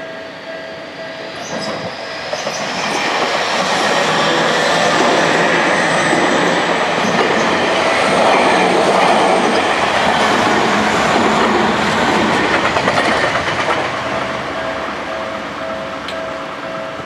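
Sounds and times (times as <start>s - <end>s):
electric train running noise: 0.0s - 17.0s
train wheel clacks: 1.2s - 16.2s.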